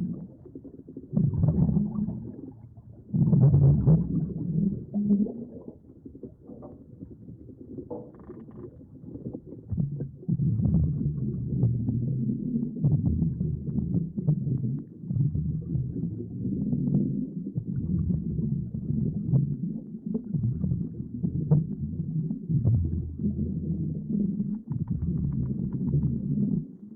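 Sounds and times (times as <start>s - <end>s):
underwater rumbling gurgle: 0.0s - 26.9s.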